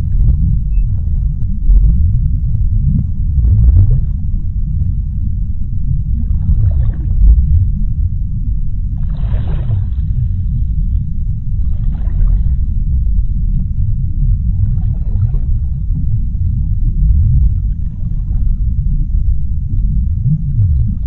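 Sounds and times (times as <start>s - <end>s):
soft underwater hiss: 0.0s - 20.2s
deep underwater rumble: 0.0s - 21.0s.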